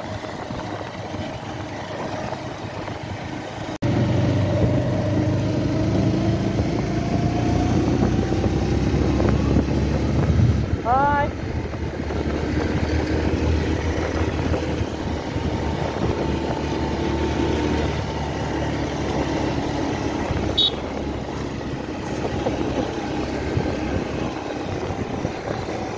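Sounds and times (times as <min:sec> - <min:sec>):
motorcycle engine running: 0:00.0 - 0:25.9
road noise: 0:00.0 - 0:25.9.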